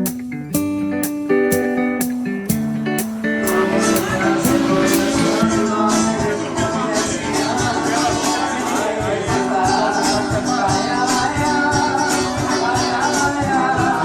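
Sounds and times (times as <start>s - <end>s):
song with guitar and singing: 0.0s - 14.0s.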